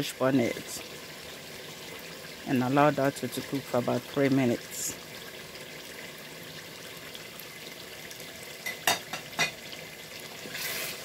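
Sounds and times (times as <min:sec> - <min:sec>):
stew sizzling in oil: 0:00.0 - 0:11.0.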